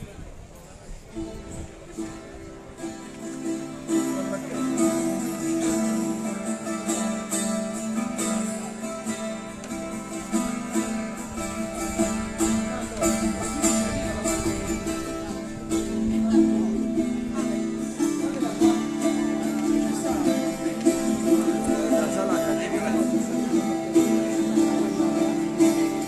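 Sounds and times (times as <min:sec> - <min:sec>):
acoustic guitar playing: 0:00.6 - 0:26.0.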